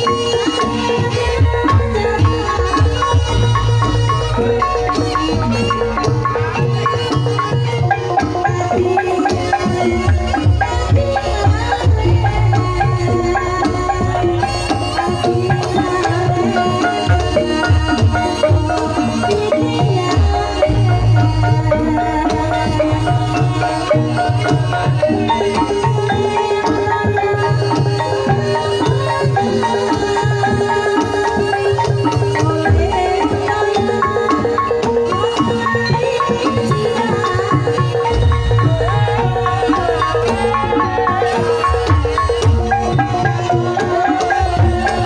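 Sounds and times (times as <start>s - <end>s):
gamelan mallet instruments melody: 0.0s - 45.0s
hand drum strokes: 0.0s - 45.0s.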